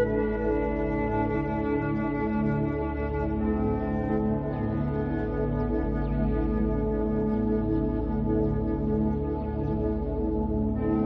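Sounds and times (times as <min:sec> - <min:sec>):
ambient new-age music: 0:00.0 - 0:11.0.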